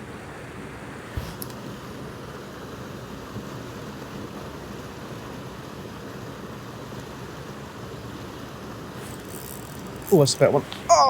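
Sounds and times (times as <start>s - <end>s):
low rushing outdoor noise: 0.0s - 11.0s.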